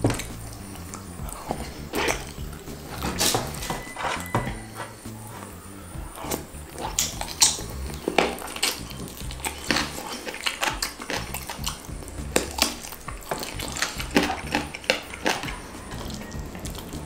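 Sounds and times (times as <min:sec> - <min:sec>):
sucking and chewing: 0:00.0 - 0:17.0
wet lip smacks: 0:00.1 - 0:17.0.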